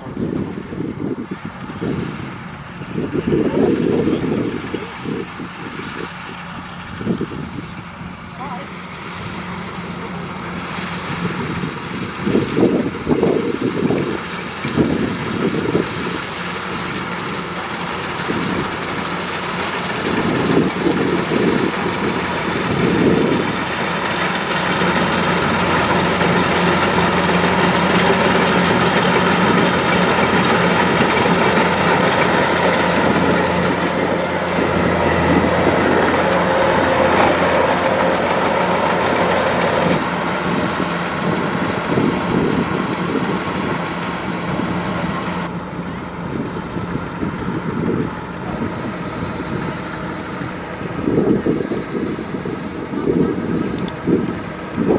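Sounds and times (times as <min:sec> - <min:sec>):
diesel engine running: 0:00.0 - 0:54.9
threshing machinery: 0:08.4 - 0:54.9.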